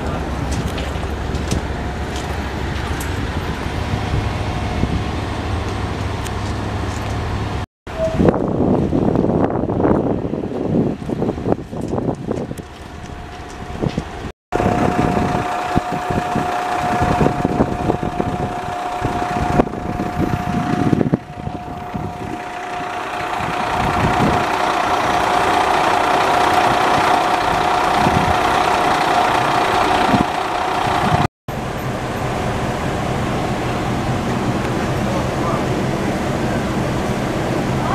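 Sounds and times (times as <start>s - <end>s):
constant whine: 0.0s - 37.9s
diesel railcar engine drone: 0.0s - 37.9s.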